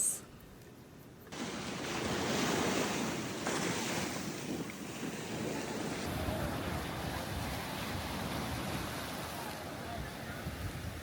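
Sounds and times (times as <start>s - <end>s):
ocean surf breaking: 1.4s - 11.0s
wind on microphone: 1.7s - 11.0s.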